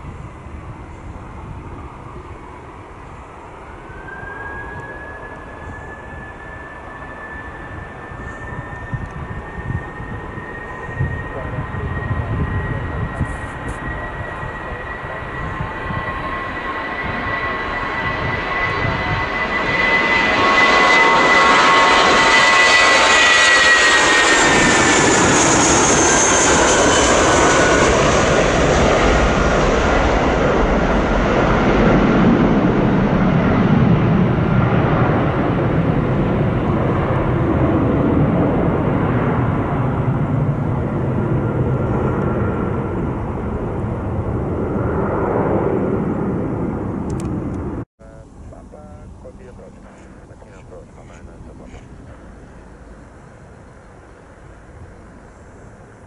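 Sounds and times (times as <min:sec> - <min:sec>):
jet engines roaring with whine: 0:00.0 - 0:56.0.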